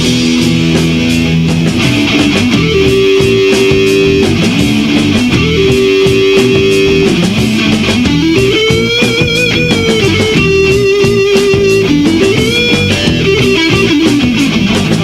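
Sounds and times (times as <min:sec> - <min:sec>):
bass guitar: 0:00.0 - 0:15.0
drums: 0:00.0 - 0:15.0
electric guitar held notes: 0:00.0 - 0:15.0.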